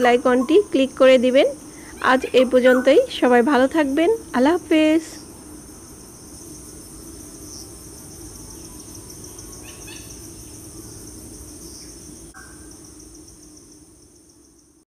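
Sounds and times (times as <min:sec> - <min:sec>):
crickets chirring: 0:00.0 - 0:14.8.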